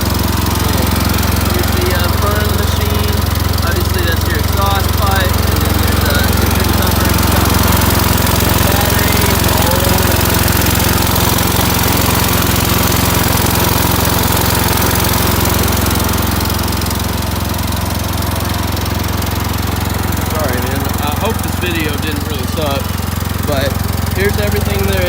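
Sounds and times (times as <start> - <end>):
skid steer engine running: 0.0 - 25.0.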